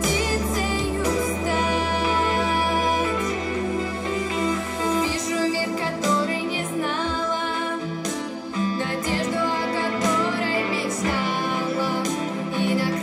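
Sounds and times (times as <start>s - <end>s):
girl singing into microphone: 0.0s - 13.0s.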